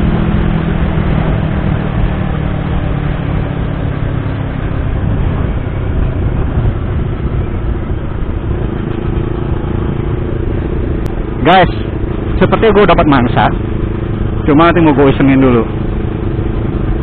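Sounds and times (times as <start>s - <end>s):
wind rush on microphone: 0.0s - 15.0s
motorcycle engine cruising: 0.0s - 17.0s
road noise: 0.0s - 17.0s.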